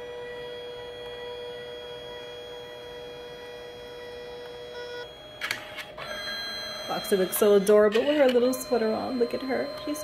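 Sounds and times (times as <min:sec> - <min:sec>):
photo printer whining: 0:00.0 - 0:10.0.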